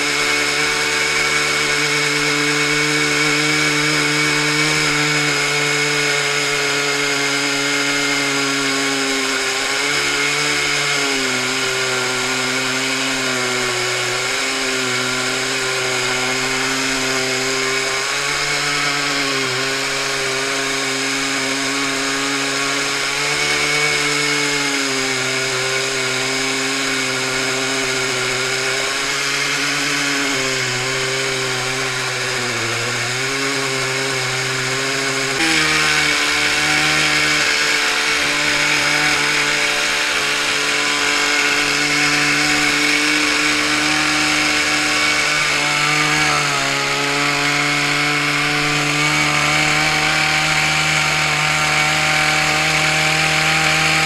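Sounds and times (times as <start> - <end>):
chainsaws ripping log: 0.0 - 54.0.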